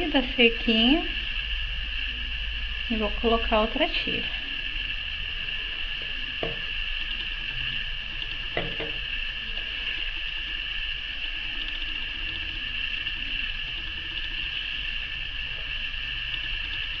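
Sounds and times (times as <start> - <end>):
high-pitched whine: 0.0 - 17.0
low hum: 0.0 - 17.0.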